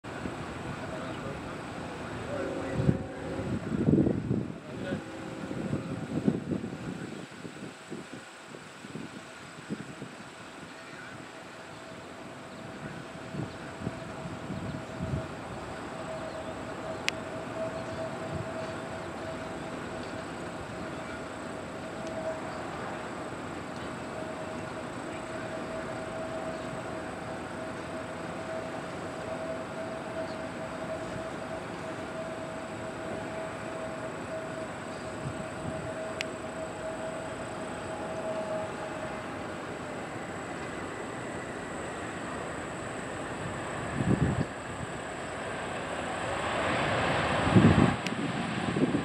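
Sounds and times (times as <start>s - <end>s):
distant jet engines humming: 0.0s - 49.0s.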